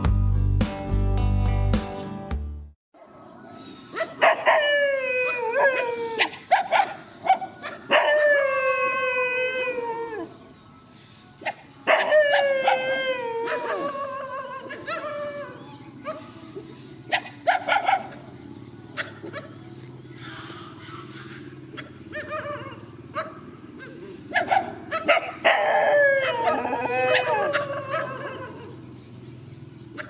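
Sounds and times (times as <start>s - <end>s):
dogs barking and yipping: 3.0s - 10.6s, 11.4s - 30.0s
dogs howling: 3.0s - 10.7s, 11.3s - 29.0s.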